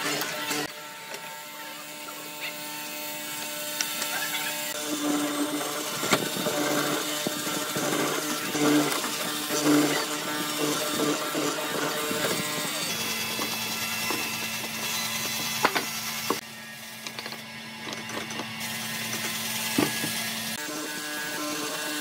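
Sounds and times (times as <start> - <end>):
mortising machine motor humming: 0.0 - 22.0.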